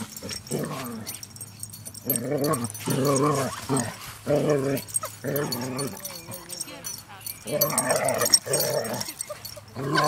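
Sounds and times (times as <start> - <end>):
dogs wavering calls: 0.0 - 10.0.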